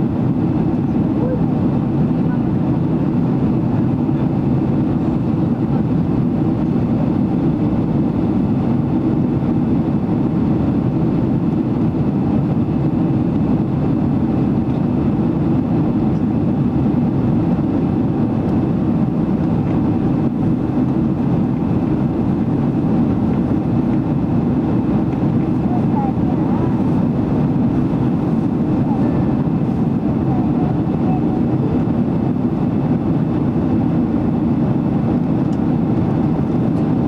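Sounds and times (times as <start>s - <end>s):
airplane cabin engine drone: 0.0s - 37.0s.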